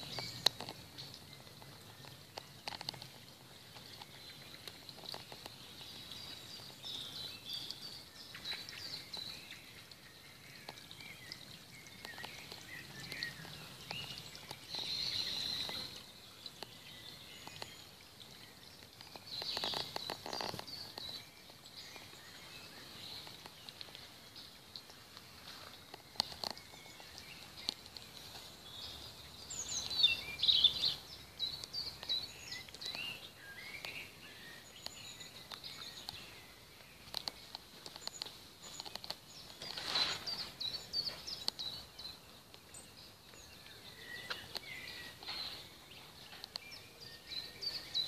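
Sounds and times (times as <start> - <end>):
birds singing and chirping: 0.0 - 48.0.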